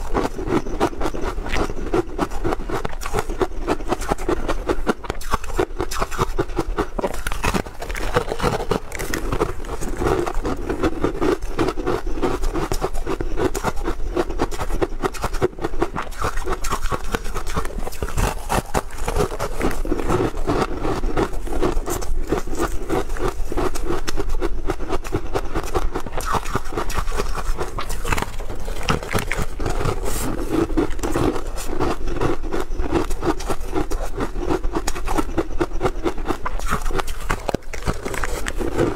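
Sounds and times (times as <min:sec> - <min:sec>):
crunching and chewing crisp: 0:00.0 - 0:38.9.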